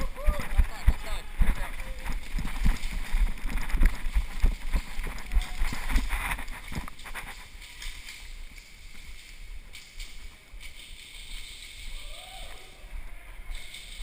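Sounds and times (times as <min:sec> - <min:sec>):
muffled camera handling rustle: 0:00.0 - 0:11.5.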